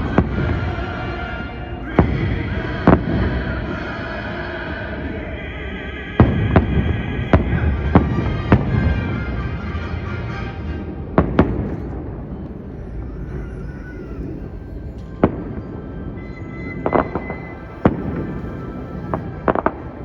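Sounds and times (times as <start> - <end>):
fireworks bangs: 0.0 - 4.2, 6.2 - 20.0
music playing: 0.0 - 20.0.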